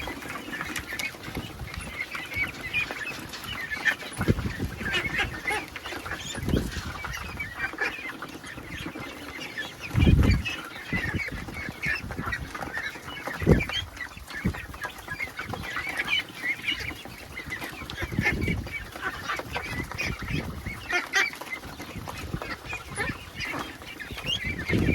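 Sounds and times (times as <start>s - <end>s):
ducks calling: 0.0s - 24.9s.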